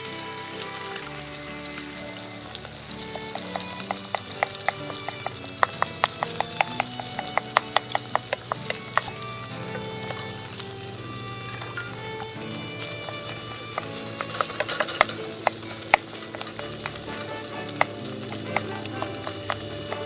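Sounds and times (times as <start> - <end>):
food sizzling in a frying pan: 0.0 - 20.0
spatula clinking and scraping pan: 3.0 - 20.0.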